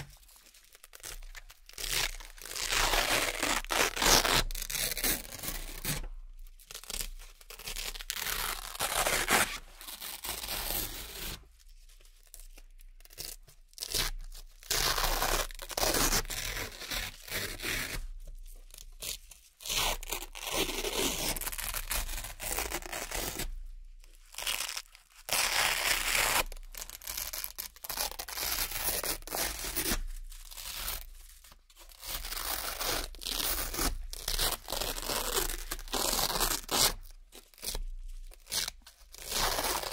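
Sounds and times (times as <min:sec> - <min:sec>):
velcro ripping: 0:00.0 - 0:06.1, 0:06.7 - 0:11.4, 0:13.0 - 0:18.0, 0:19.0 - 0:23.5, 0:24.3 - 0:39.9.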